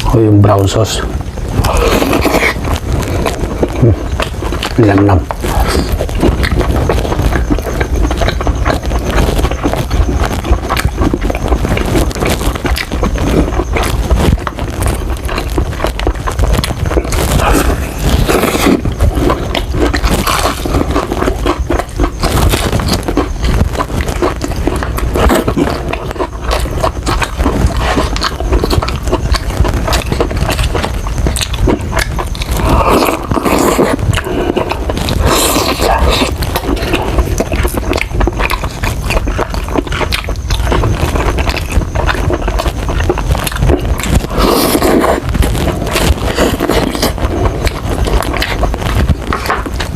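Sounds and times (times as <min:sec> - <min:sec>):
chewing crispy fried chicken: 0:00.0 - 0:49.9
wet mouth sounds: 0:01.1 - 0:49.9.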